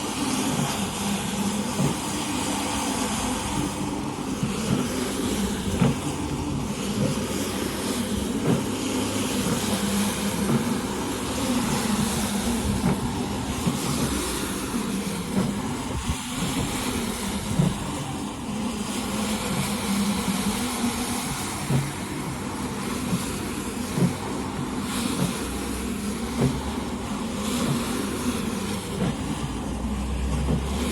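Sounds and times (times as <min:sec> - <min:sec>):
cleaning machine motor running: 0:00.0 - 0:30.9.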